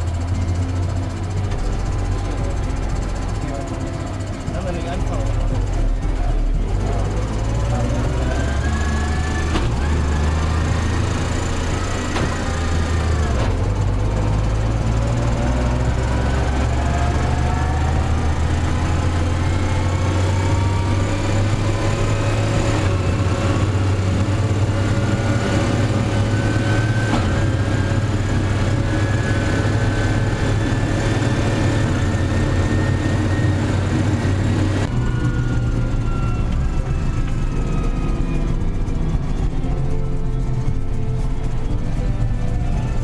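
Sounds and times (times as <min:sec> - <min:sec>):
tractor diesel engine running: 0:00.0 - 0:43.0
thin whine rising in pitch: 0:06.2 - 0:43.0.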